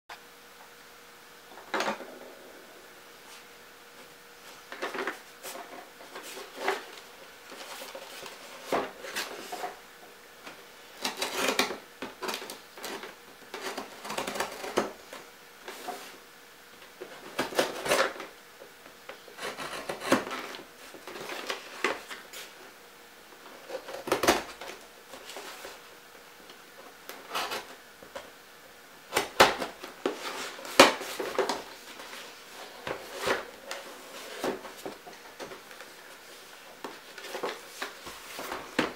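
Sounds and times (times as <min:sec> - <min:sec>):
faint steady hum: 0:00.1 - 0:38.9.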